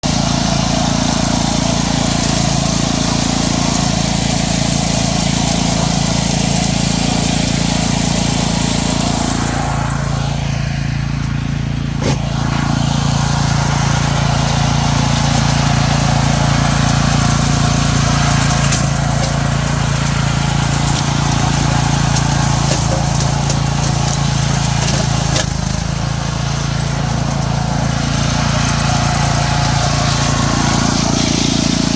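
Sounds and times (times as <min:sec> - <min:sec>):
wood chipper engine running: 0:00.0 - 0:31.9.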